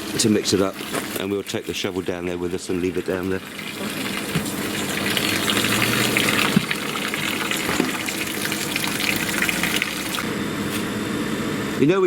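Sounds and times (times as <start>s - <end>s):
hoe scraping wet mix: 0.0s - 10.2s.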